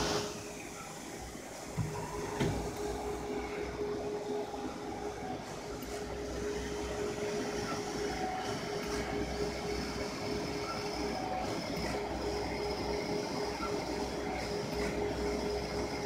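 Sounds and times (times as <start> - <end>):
printer carriage moving: 0.0 - 16.0
printer hum: 0.0 - 16.0.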